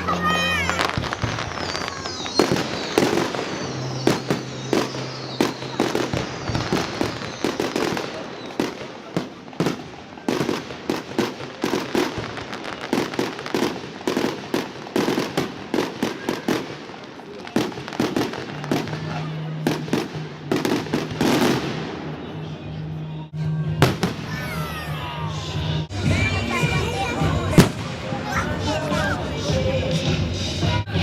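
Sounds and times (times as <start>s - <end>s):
fireworks banging: 0.0s - 22.6s, 23.7s - 31.0s.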